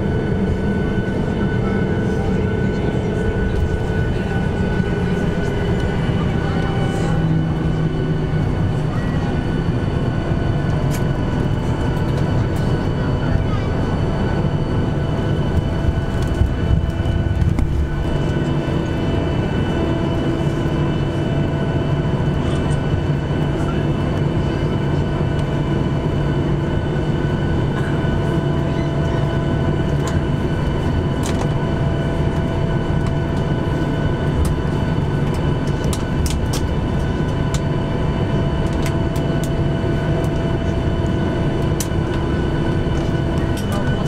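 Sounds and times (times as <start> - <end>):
jet engines humming at idle: 0.0 - 44.0.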